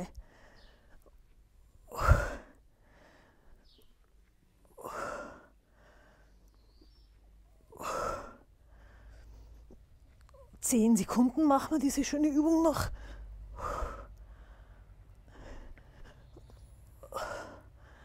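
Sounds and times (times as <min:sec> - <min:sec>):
faint breaths: 0:00.1 - 0:10.6, 0:12.8 - 0:18.0.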